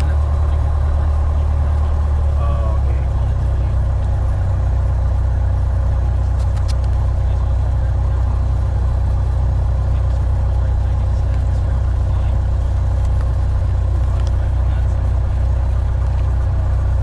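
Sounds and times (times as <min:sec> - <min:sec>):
airplane engine and propeller droning: 0:00.0 - 0:17.0.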